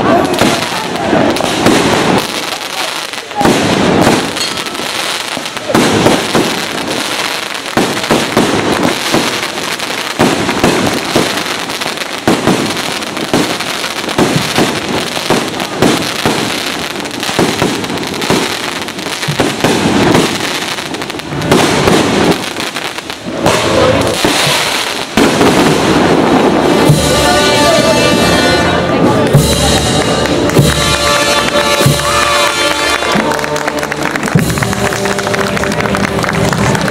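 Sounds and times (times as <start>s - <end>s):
firecrackers cracking: 0.0s - 36.9s.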